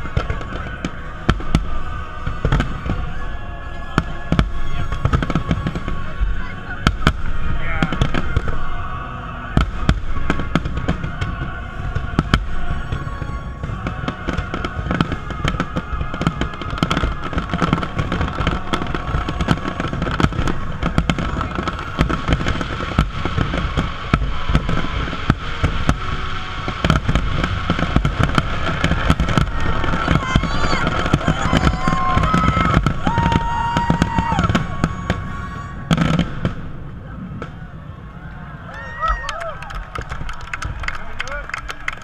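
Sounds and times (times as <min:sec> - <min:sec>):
fireworks booming: 0:00.0 - 0:37.9, 0:39.0 - 0:42.0.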